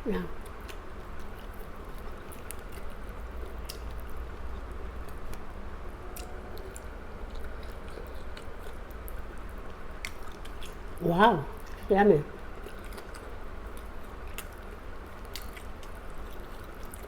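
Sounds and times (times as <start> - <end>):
person chewing food: 0.3 - 5.5, 6.1 - 11.0, 11.6 - 17.0.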